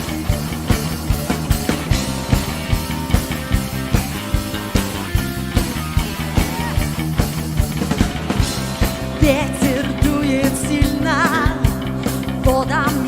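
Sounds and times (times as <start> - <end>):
rock instrumental with drums: 0.0 - 13.0.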